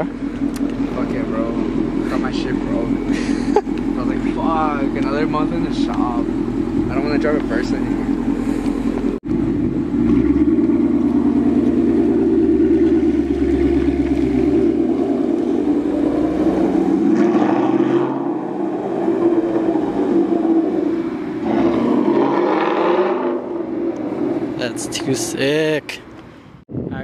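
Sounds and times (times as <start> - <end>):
car engine running steadily: 0.0 - 22.3.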